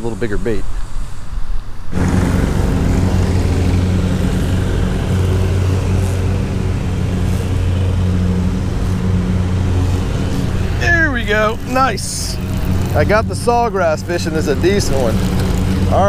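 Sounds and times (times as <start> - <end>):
gas-powered equipment running: 1.9 - 16.0.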